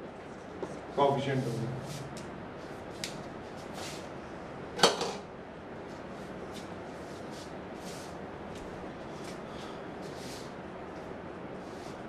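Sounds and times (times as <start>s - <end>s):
low room hiss: 0.0s - 12.0s.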